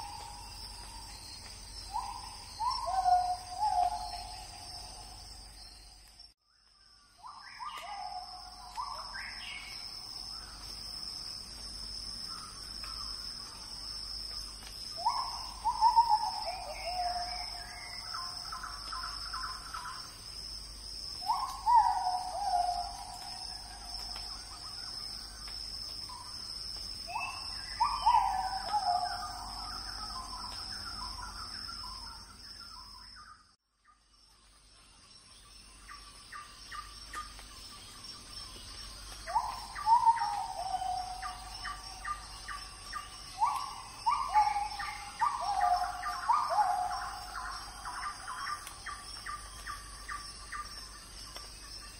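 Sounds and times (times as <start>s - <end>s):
insect drone: 0.0s - 51.9s.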